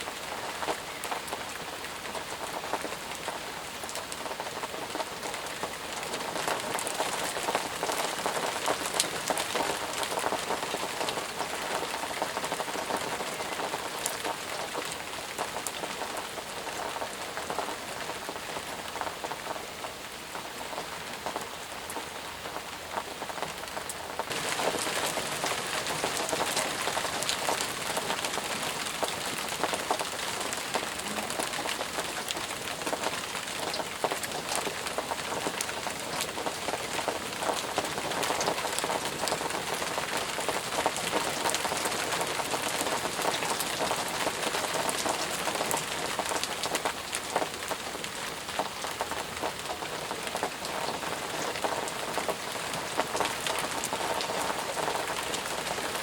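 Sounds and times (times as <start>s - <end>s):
heavy rain pattering on surfaces: 0.0s - 56.0s.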